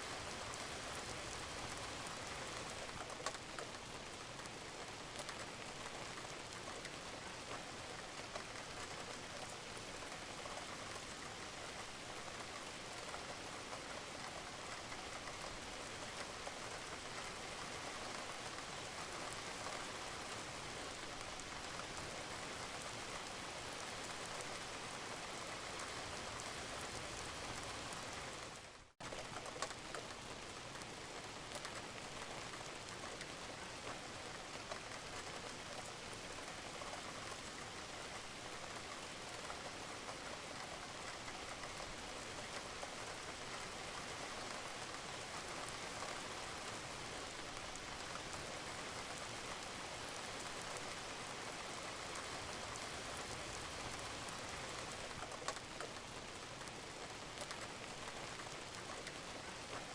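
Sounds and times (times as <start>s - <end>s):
rain falling on a roof: 0.0s - 59.9s.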